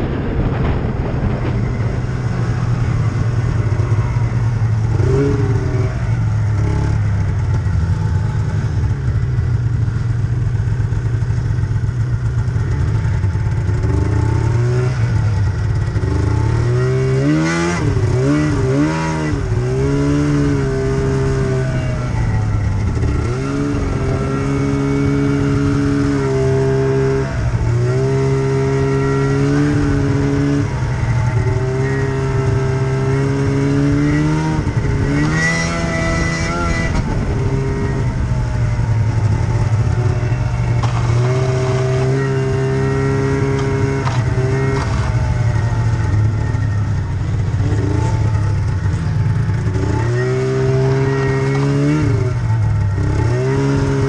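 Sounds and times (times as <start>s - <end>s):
snowmobile engine revving: 0.0s - 9.3s, 10.9s - 54.0s.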